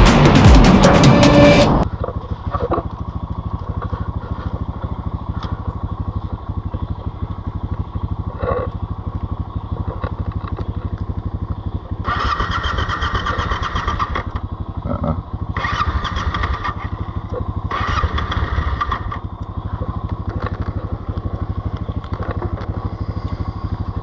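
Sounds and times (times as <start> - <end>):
motorcycle engine pulsing: 0.0 - 24.0.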